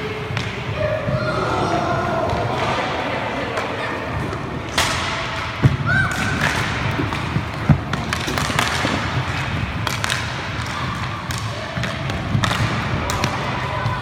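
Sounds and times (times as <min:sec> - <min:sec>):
hockey sticks and puck clacking: 0:00.0 - 0:01.2, 0:02.2 - 0:14.0.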